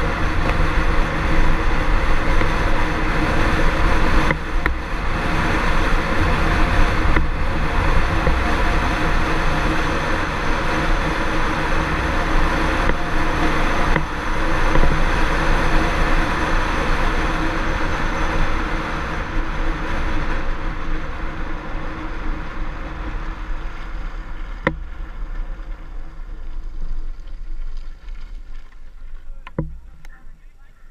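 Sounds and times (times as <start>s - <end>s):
toy wheels rumbling on asphalt: 0.0s - 30.9s
wind on microphone: 0.0s - 30.9s.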